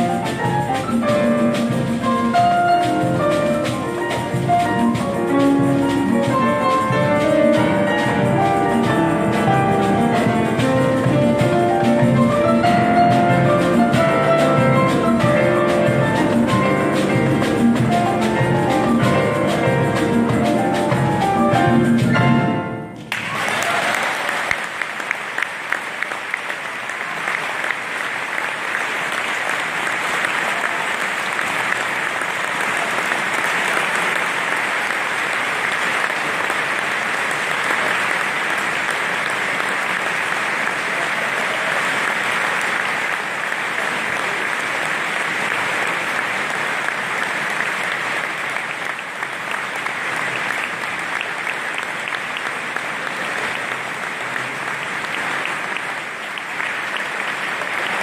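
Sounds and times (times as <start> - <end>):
audience applauding: 0.0 - 22.1, 23.0 - 58.0.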